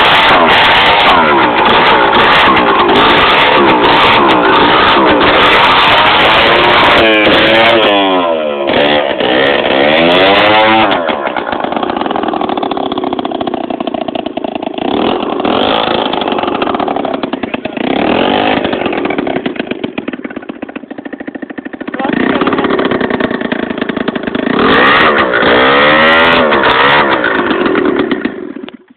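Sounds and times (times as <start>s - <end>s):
scooter engine revving: 0.0s - 28.9s.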